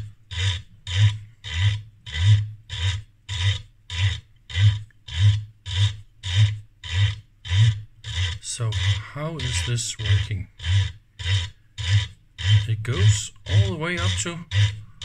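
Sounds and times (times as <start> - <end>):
rasping strokes of hand crank: 0.0 - 15.0.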